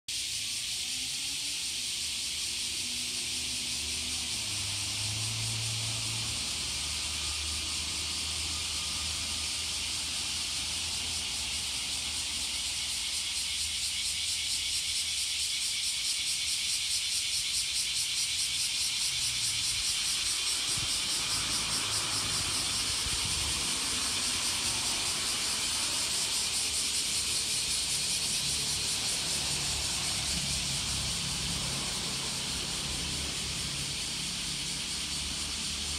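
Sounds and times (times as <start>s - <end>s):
cicadas buzzing and pulsing: 0.1s - 35.9s.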